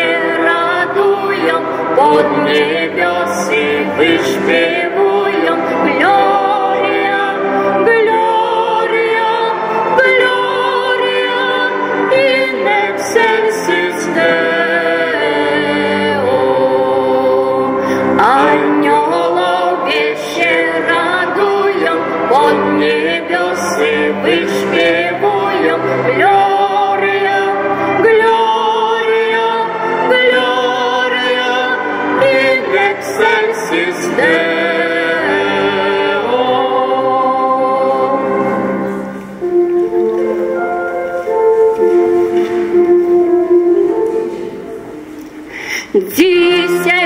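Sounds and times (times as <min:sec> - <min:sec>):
people singing a carol: 0:00.0 - 0:40.0, 0:46.0 - 0:47.0
string ensemble: 0:00.0 - 0:47.0.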